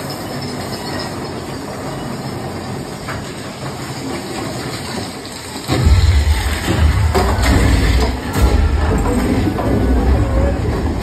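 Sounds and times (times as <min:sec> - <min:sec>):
roller coaster cars rattling: 0:00.0 - 0:11.0.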